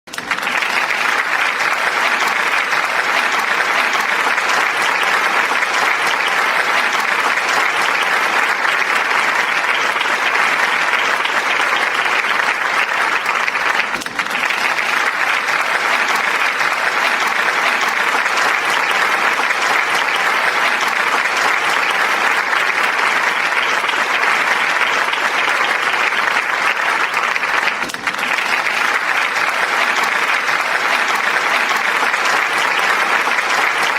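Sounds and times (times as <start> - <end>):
audience applause: 0.0 - 33.9.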